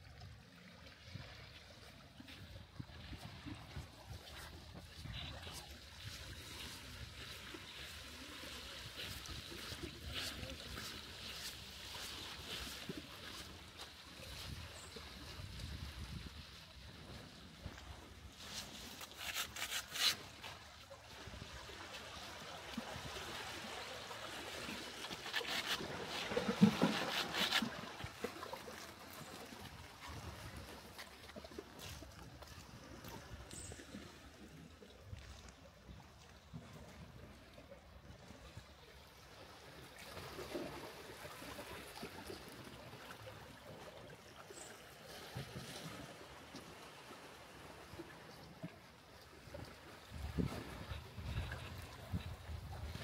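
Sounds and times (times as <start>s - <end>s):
water lapping and splashing: 0.0s - 53.0s.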